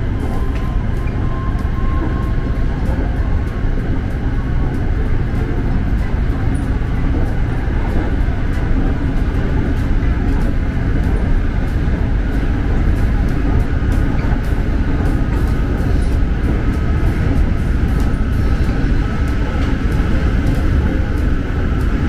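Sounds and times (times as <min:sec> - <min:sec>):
constant hum: 0:00.0 - 0:22.0
train wheels rumbling on rail: 0:00.0 - 0:22.0.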